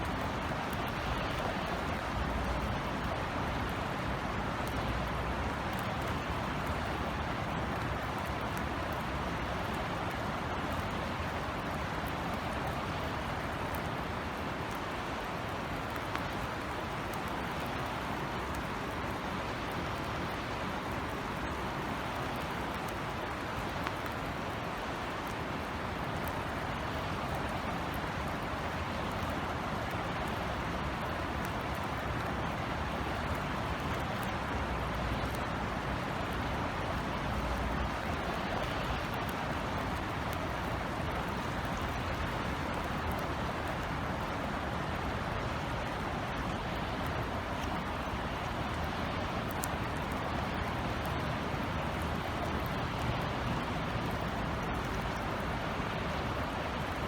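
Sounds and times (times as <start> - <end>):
light rain hissing: 0.0 - 57.0.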